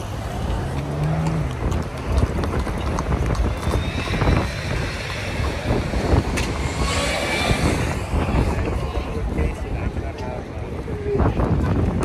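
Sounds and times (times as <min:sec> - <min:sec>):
city street traffic: 0:00.0 - 0:12.0
wind buffeting microphone: 0:00.0 - 0:12.0.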